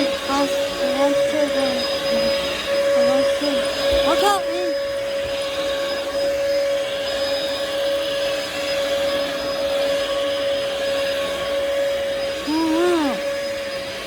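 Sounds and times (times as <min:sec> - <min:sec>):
vacuum cleaner whine: 0:00.0 - 0:14.0.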